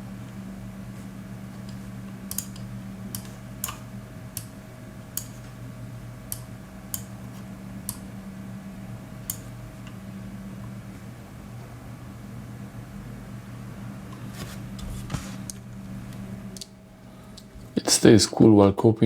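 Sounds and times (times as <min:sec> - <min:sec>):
hard drive low hum: 0:00.0 - 0:18.5.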